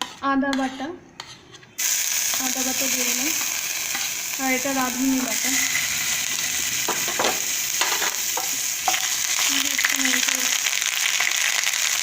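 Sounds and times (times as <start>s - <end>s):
paste sizzling in hot oil: 1.8s - 12.0s.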